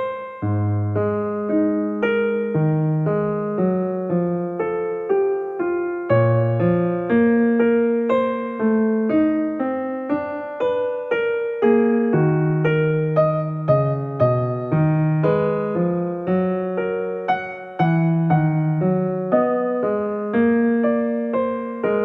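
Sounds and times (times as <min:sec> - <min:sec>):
gentle electric piano melody: 0:00.0 - 0:22.0.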